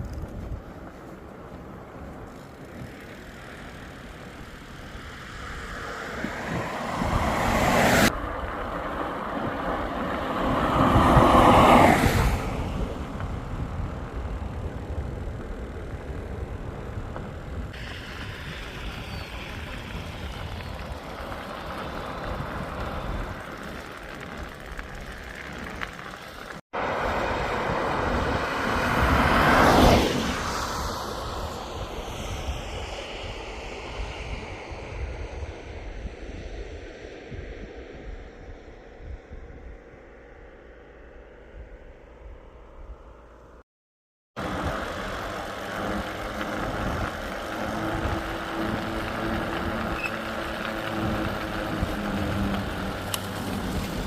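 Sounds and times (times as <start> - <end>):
vehicles passing: 0.0 - 35.4, 44.4 - 54.0
road and wind noise: 0.0 - 43.6, 44.3 - 54.0.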